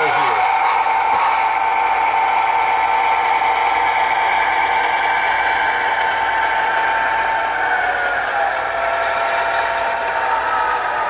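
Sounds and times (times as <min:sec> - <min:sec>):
model train engine sound humming: 0:00.0 - 0:11.0.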